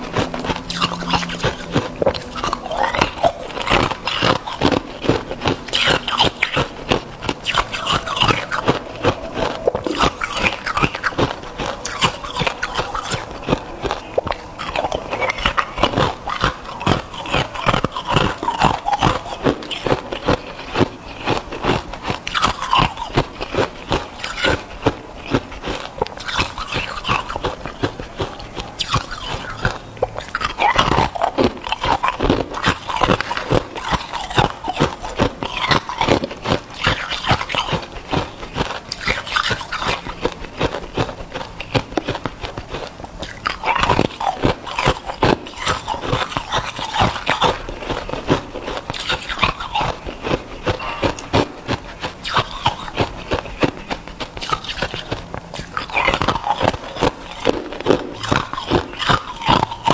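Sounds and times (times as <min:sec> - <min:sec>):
person chewing hard ice: 0:00.0 - 0:59.9.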